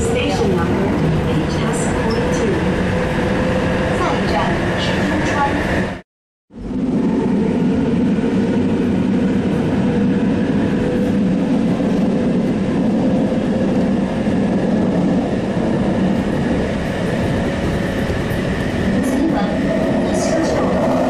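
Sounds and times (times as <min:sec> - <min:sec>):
train wheels rumbling on rails: 0:00.0 - 0:06.0, 0:06.6 - 0:21.0.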